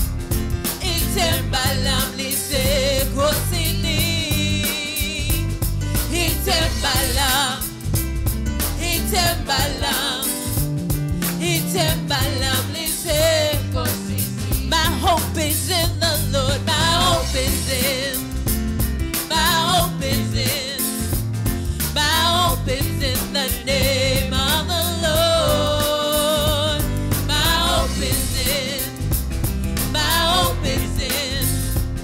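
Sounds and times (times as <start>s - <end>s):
band with keyboard bass drums: 0.0s - 32.0s
woman singing with vibrato: 0.8s - 5.5s, 6.1s - 7.7s, 8.8s - 10.5s, 11.4s - 18.3s, 19.3s - 21.1s, 21.9s - 29.0s, 29.9s - 31.8s.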